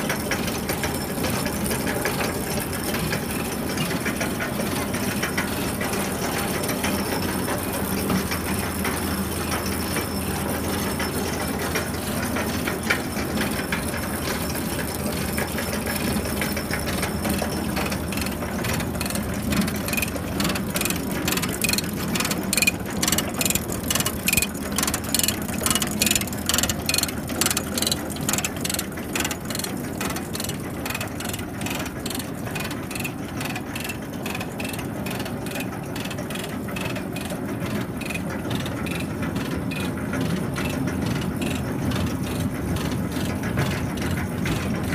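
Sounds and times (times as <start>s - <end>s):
rapid ratchet clicking: 0.0s - 43.4s
tractor engine running: 0.0s - 44.9s.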